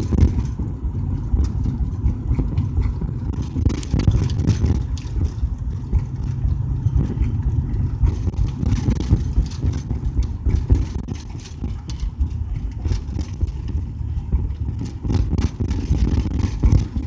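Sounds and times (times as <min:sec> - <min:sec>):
engine and road rumble: 0:00.0 - 0:17.0
small knocks and bumps: 0:00.0 - 0:17.0.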